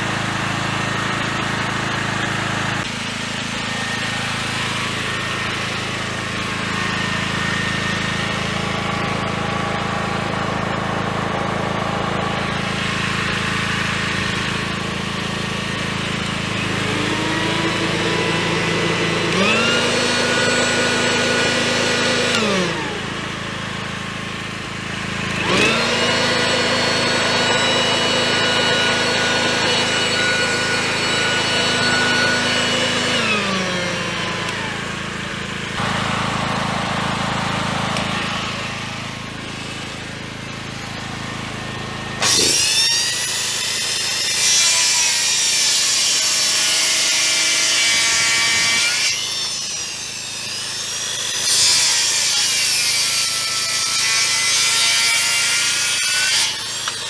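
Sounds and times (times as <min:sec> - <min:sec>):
petrol generator running: 0:00.0 - 0:54.8
circular saw cutting wood: 0:00.0 - 0:57.0
power tool motor whine: 0:00.0 - 0:57.0.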